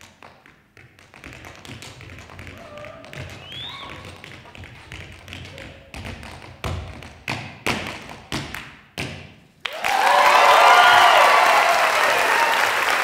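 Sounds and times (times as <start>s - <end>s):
tap shoes on stage floor: 0.0s - 11.2s.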